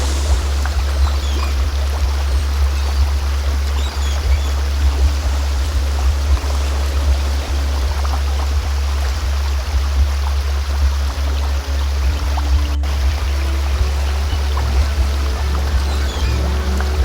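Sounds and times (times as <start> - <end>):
deep low hum: 0.0 - 17.0
flowing stream: 0.0 - 17.0
soft held notes: 0.0 - 17.0.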